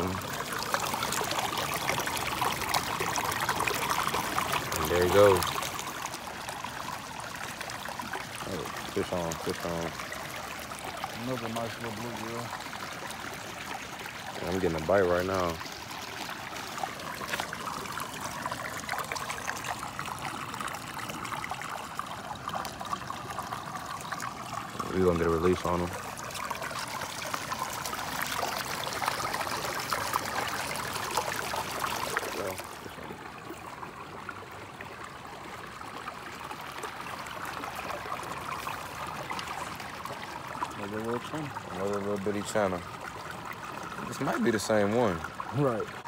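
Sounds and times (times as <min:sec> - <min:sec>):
water trickling and splashing: 0:00.0 - 0:46.0.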